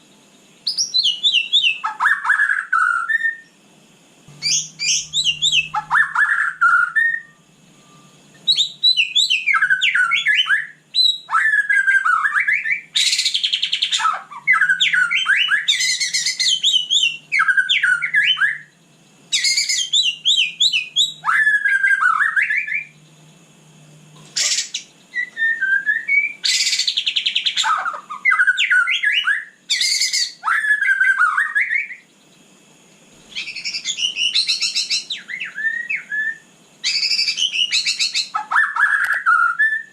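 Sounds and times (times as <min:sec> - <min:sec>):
bird singing whistled notes: 0:00.0 - 0:03.6, 0:04.3 - 0:23.6, 0:24.2 - 0:39.9
harsh buzzy bird notes: 0:00.0 - 0:39.9.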